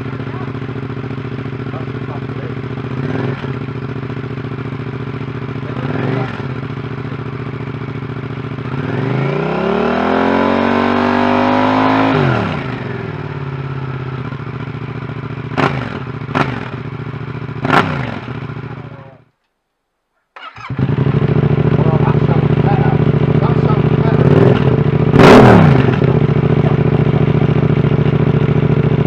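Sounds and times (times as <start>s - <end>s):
motorcycle engine idling and revving: 0.0s - 19.3s, 20.4s - 29.0s.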